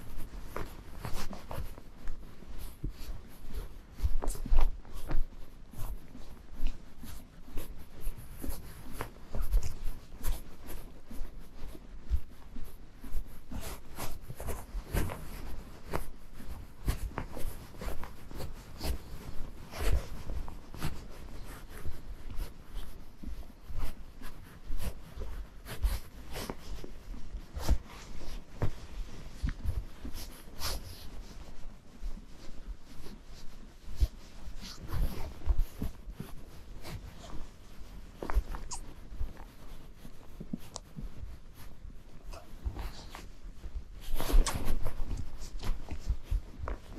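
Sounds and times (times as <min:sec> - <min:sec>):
hooves crunching on snow: 0:00.0 - 0:46.9.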